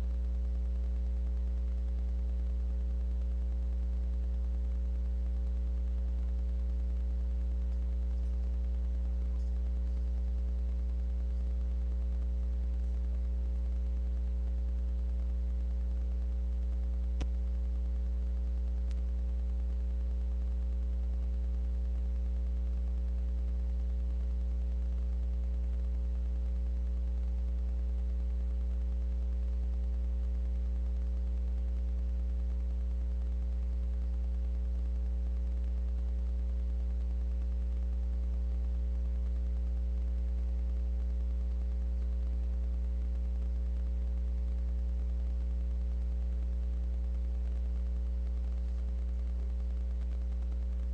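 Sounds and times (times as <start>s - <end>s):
faint clicks: 0.0s - 50.9s
low electrical hum: 0.0s - 50.9s.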